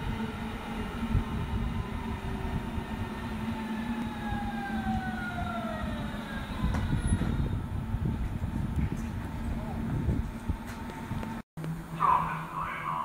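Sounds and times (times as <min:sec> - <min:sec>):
electric train motor whine: 0:00.0 - 0:12.0.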